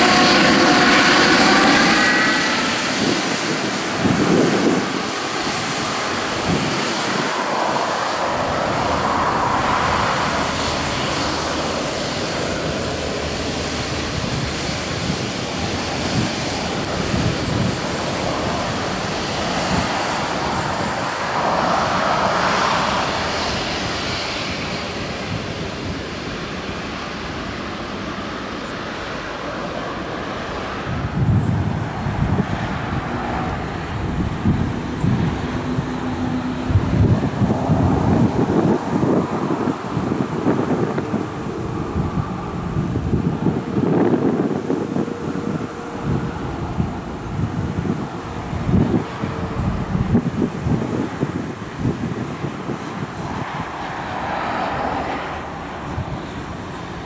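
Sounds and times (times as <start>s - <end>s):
jet engines running at low thrust: 0.0s - 57.0s.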